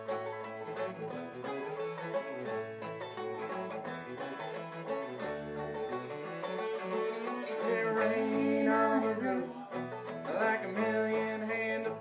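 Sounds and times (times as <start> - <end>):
acoustic guitar: 0.0 - 12.0
plucked banjo: 0.0 - 12.0
walking bass: 0.0 - 12.0.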